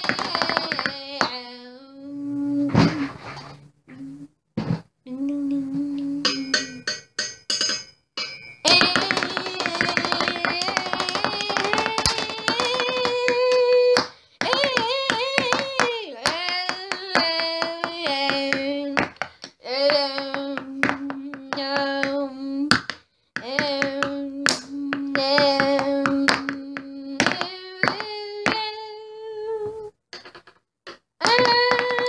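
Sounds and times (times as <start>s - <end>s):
person singing long held notes: 0.0s - 3.2s, 5.0s - 6.9s, 8.7s - 30.0s, 31.2s - 32.0s.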